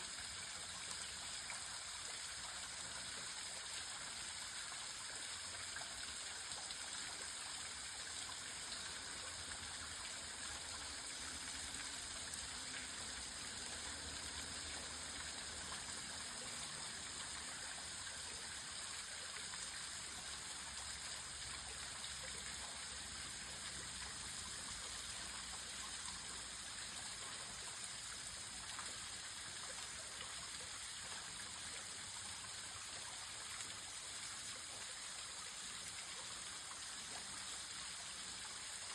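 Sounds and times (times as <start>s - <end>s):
small waterfall trickling: 0.0s - 38.9s.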